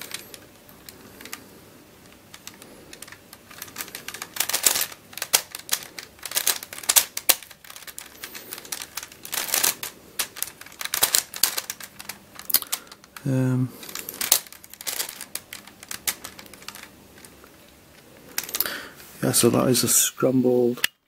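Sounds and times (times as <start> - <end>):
plastic puzzle pieces clicking: 0.0 - 1.4, 2.0 - 18.8.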